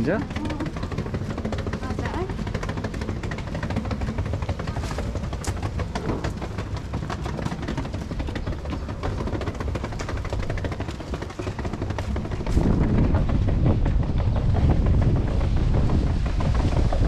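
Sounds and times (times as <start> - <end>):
footsteps on sidewalk: 0.0 - 17.0
wind buffeting microphone: 0.0 - 17.0.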